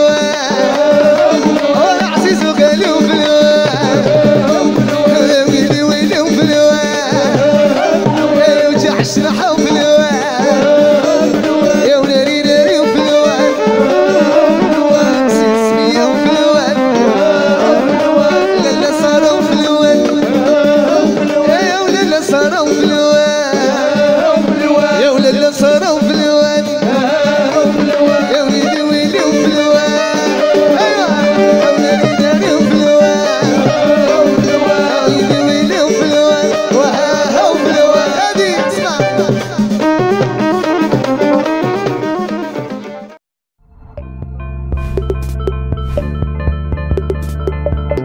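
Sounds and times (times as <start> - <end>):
band playing winding melody: 0.0 - 43.1
hand-drum percussion: 0.0 - 43.1, 44.7 - 48.0.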